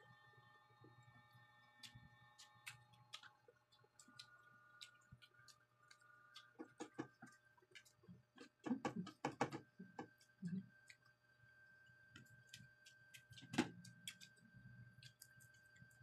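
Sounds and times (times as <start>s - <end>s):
faint steady hum: 0.0s - 16.0s
people eating clicks and smacks: 1.3s - 11.2s, 12.1s - 16.0s.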